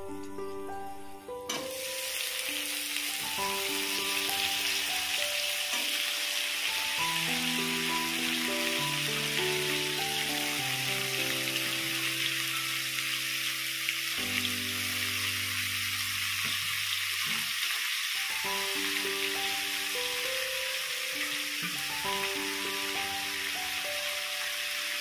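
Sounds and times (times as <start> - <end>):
background music with held notes: 0.0 - 25.0
greens sizzling in oil: 1.5 - 25.0.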